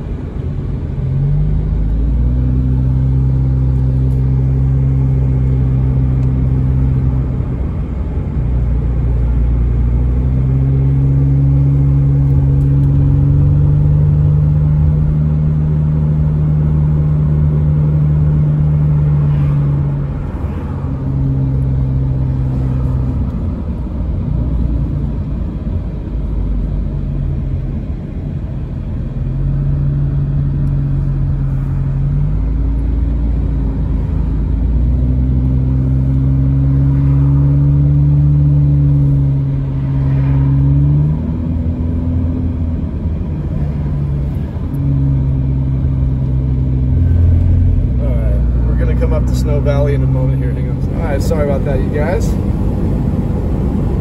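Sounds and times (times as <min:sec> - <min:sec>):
car engine hum and road rumble: 0:00.0 - 0:54.0.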